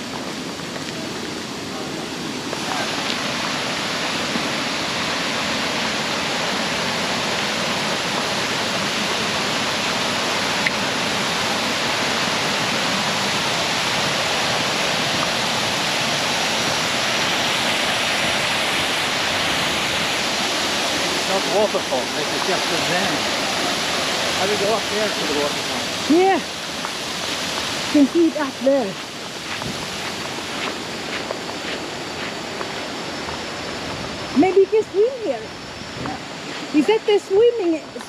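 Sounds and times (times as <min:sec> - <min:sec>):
water pouring over dam: 0:00.0 - 0:31.5.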